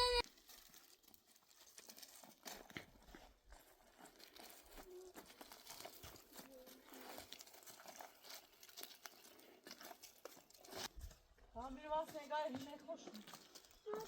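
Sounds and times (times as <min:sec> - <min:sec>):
faint crackling and rustling: 0:00.2 - 0:14.0.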